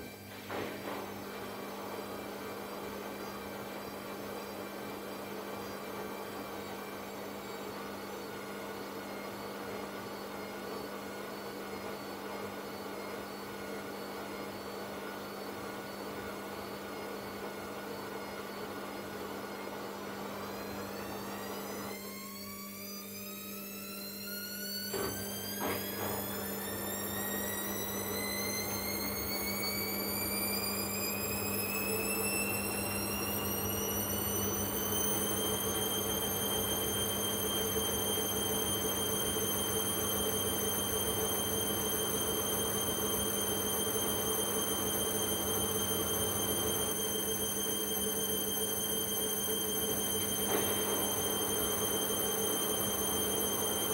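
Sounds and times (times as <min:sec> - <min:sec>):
washing machine spinning: 0:00.0 - 0:53.9.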